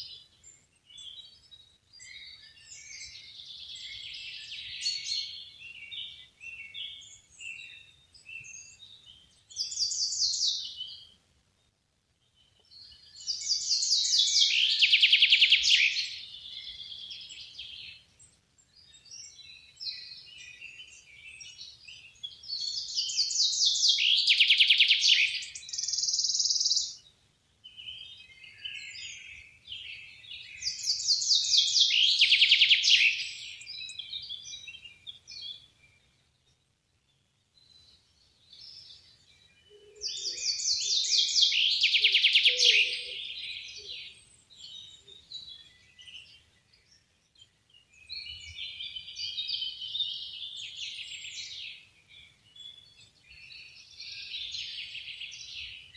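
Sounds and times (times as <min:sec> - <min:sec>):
songbirds trilling: 0:00.0 - 0:11.2, 0:12.2 - 0:55.9.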